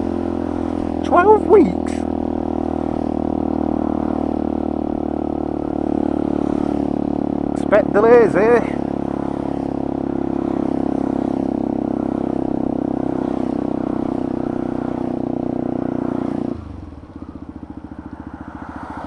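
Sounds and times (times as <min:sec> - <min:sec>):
motorcycle engine with loud exhaust: 0:00.0 - 0:19.0.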